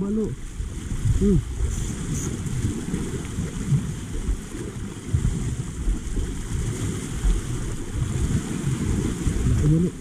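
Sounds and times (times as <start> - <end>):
sea water washing over rocks: 0.0 - 10.0
wind buffeting microphone: 0.0 - 10.0.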